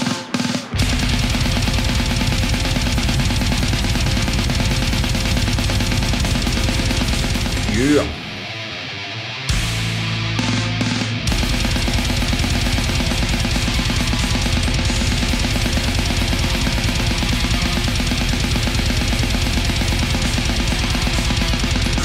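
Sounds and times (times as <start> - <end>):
fast dense drumming: 0.0 - 8.2, 9.5 - 22.0
heavy metal music: 0.0 - 22.0.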